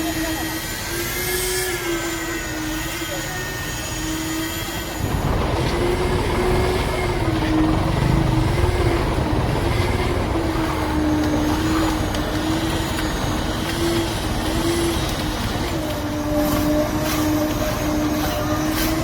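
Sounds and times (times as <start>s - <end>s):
motor engine running under load: 0.0s - 19.0s.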